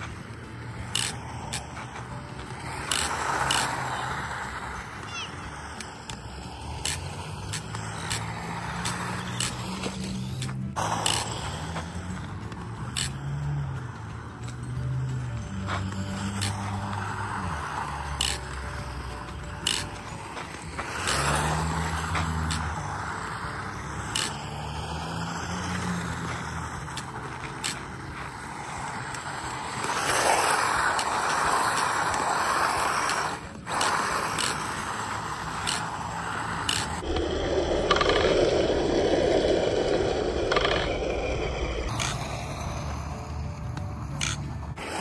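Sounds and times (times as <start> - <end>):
toy car tyres scraping on dirt: 0.0 - 45.0.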